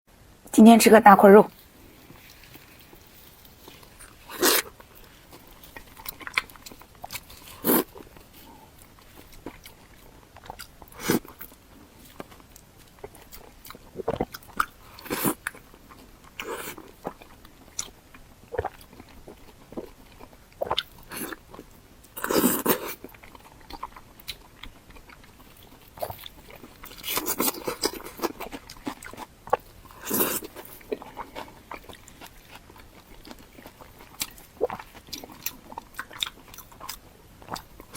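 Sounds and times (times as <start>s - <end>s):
biting and chewing meat: 1.6s - 37.9s.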